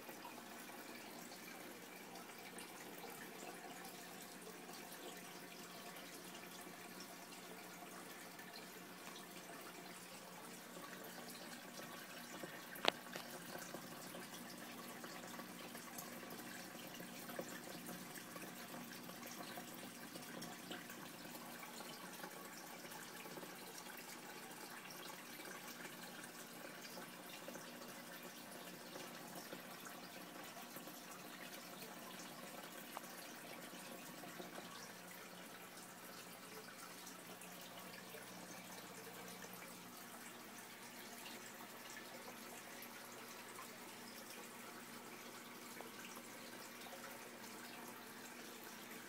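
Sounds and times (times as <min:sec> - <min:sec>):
faint steady hum: 0:00.0 - 0:49.0
water trickling into a fish tank: 0:00.0 - 0:49.0.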